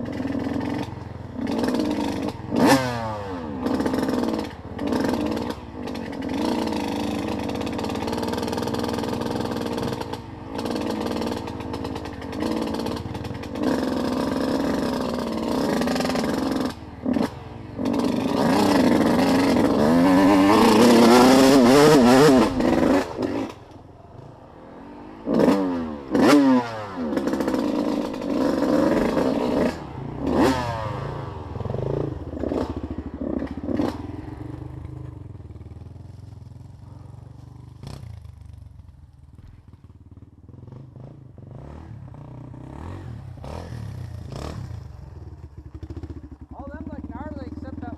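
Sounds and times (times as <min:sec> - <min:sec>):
off-road vehicle engine revving: 0:00.0 - 0:34.8, 0:40.8 - 0:45.0, 0:46.5 - 0:47.9.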